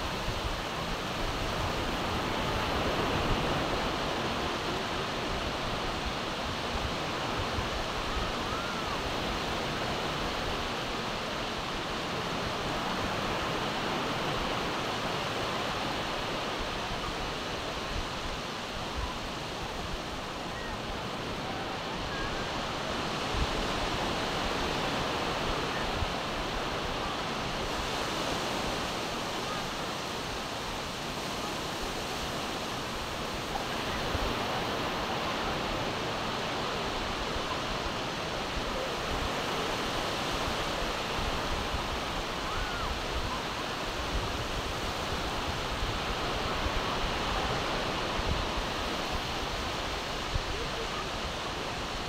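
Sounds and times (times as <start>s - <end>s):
surf breaking on beach: 0.0s - 52.0s
wind rumbling on microphone: 0.0s - 52.0s.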